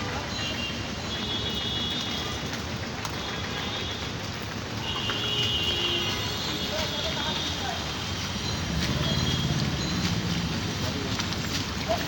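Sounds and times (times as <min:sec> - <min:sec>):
rain hissing on wet street: 0:00.0 - 0:12.0
street noise: 0:00.0 - 0:12.0.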